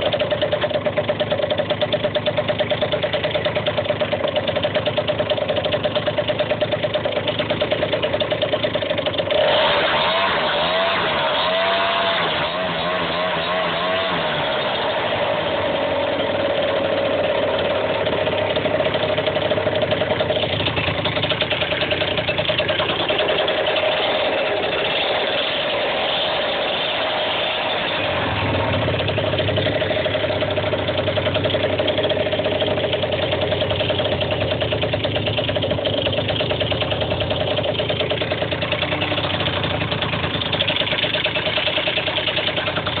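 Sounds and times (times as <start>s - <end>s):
scooter engine idling: 0.0s - 43.0s.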